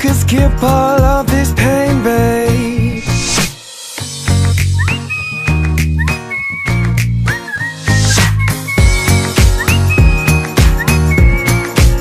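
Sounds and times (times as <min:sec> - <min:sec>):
whistled melody over beat: 0:00.0 - 0:12.0.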